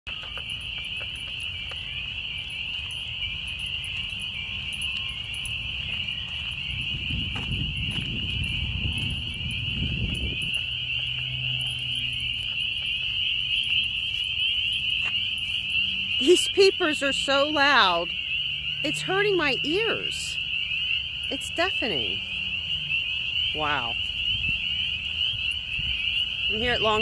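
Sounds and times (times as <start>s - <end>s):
chorus of peeping frogs: 0.1s - 27.0s.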